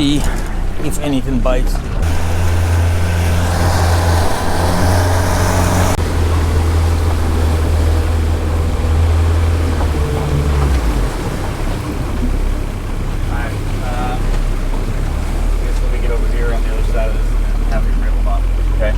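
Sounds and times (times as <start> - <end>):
boat motor humming: 0.0 - 18.9
wind and water rushing: 0.0 - 18.9.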